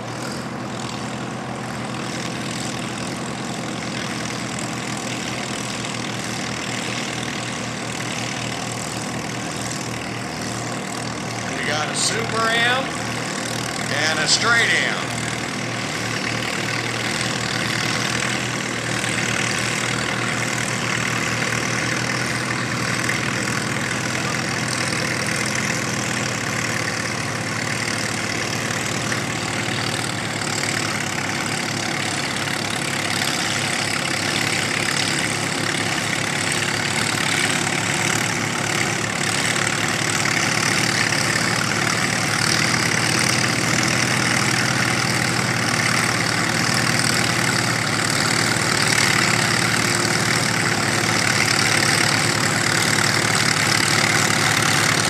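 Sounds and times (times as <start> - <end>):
tractor engines droning under load: 0.0 - 55.0.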